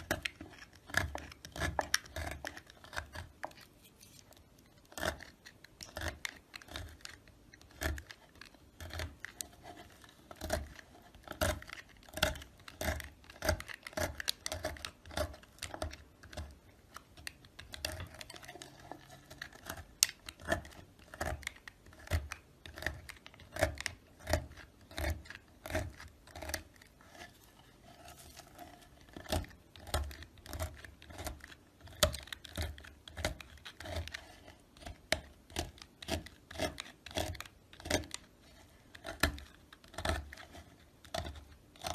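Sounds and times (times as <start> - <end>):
knife cutting soap: 0.0 - 41.9.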